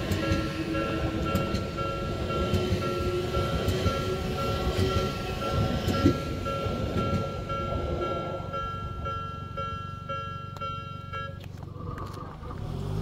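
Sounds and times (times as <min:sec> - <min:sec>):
train low rumble: 0:00.0 - 0:13.0
wheels clacking over rail joints: 0:00.0 - 0:13.0.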